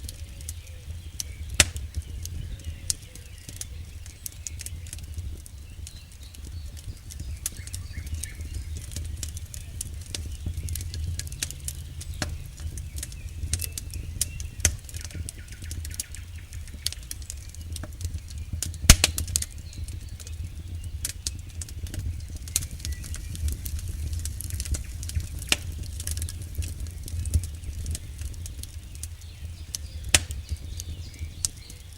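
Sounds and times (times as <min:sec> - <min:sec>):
low rumble: 0:00.0 - 0:31.7
campfire crackling and popping: 0:00.0 - 0:31.9.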